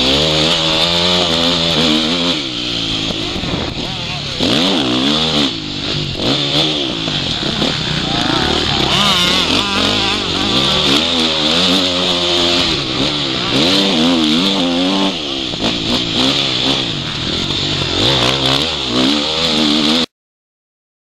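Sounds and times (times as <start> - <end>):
motorbike engine revving: 0.0 - 20.1.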